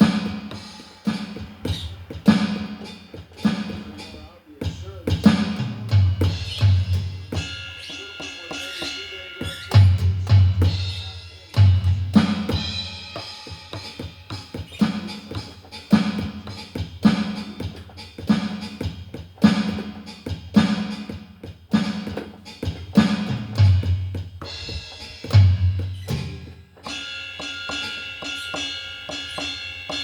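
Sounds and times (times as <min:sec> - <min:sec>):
electronic drum kit groove: 0:00.0 - 0:30.0.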